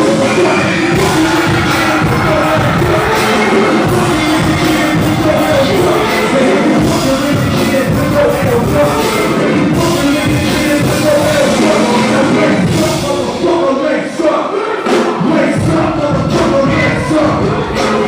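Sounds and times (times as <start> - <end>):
crowd: 0.0 - 18.0
live rap music: 0.0 - 18.0.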